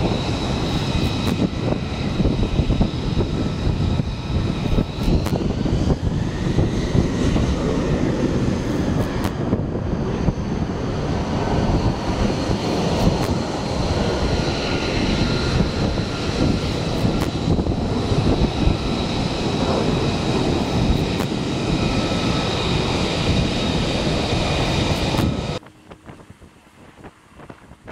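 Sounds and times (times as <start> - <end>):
jet engine rumble with high whine: 0.0 - 27.9.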